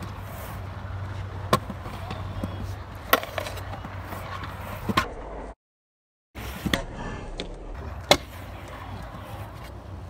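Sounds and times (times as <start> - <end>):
scooter wheels rolling on concrete: 0.0 - 5.1, 6.4 - 10.0.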